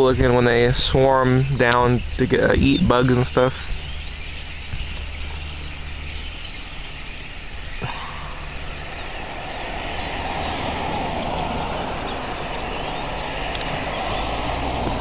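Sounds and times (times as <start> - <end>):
engine idling hum: 0.0 - 15.0
flock of birds chattering: 0.0 - 15.0.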